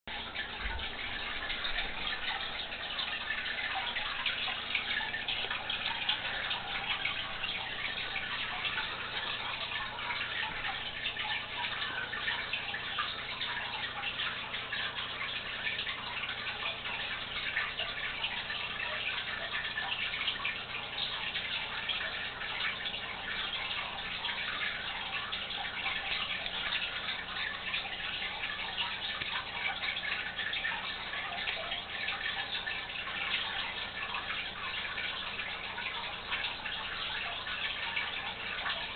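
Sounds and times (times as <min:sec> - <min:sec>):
aquarium water trickling and bubbling: 0:00.1 - 0:38.9
faint low hum: 0:00.1 - 0:38.9.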